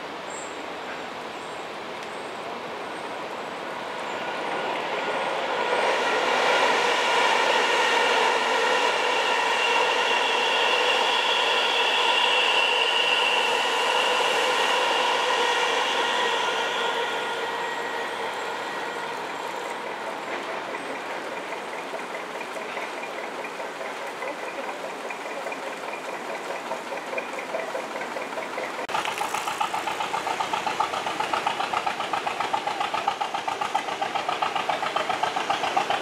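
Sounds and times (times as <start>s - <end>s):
train passing with high whine: 0.0s - 36.0s.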